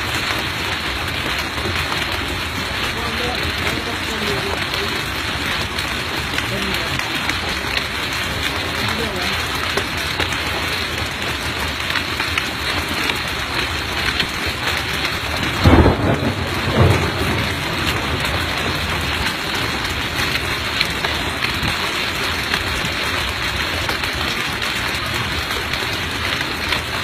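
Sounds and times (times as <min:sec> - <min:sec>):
heavy rain and hail: 0:00.0 - 0:27.0.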